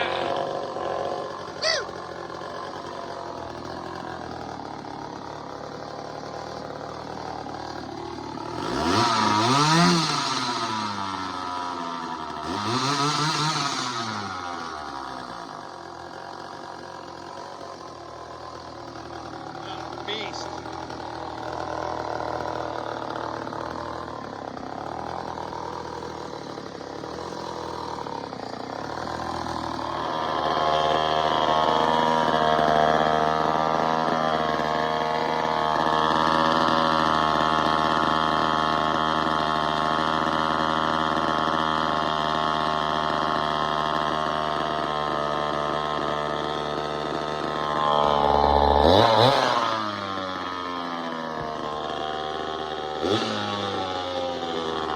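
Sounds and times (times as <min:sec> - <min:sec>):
chainsaw running: 0:00.0 - 0:54.9.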